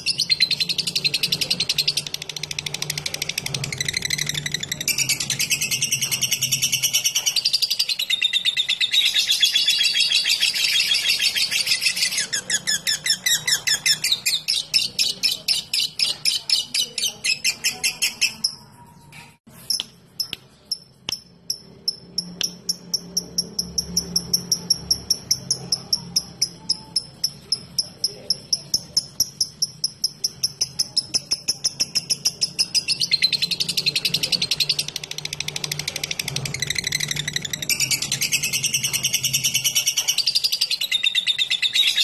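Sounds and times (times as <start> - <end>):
lovebird trilling and chirping: 0.0 - 42.0.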